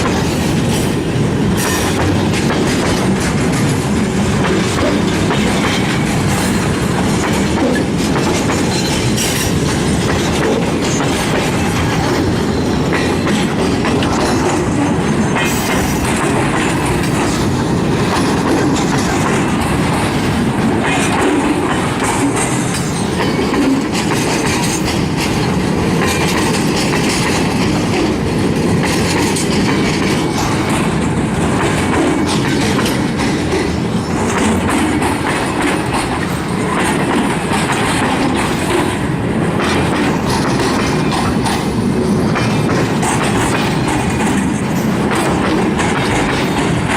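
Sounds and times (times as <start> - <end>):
freight train rumbling: 0.0 - 46.9
wheels clattering over rails: 0.0 - 46.9.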